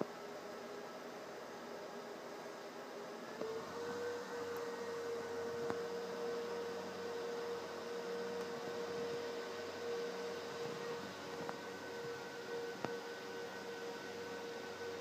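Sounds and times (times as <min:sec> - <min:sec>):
server cooling fans whining: 0:00.0 - 0:15.0.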